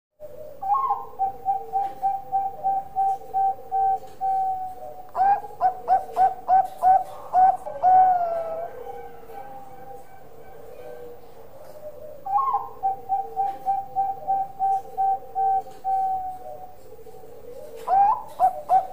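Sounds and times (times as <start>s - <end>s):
dove cooing: 0.2s - 18.9s.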